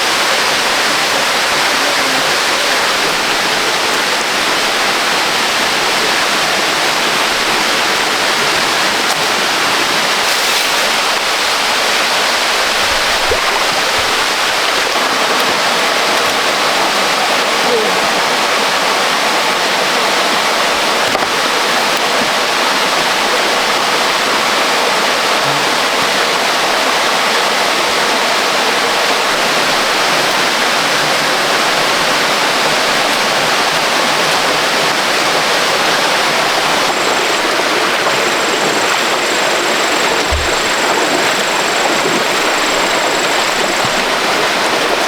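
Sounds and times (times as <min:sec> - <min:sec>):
waterfall and rapids rushing: 0:00.0 - 0:45.0.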